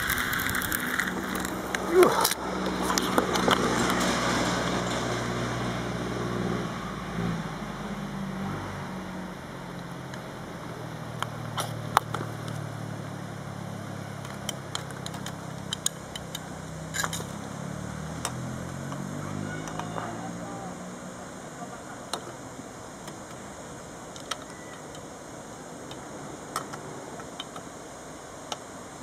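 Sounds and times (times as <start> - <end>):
engine humming: 0.0 - 29.0.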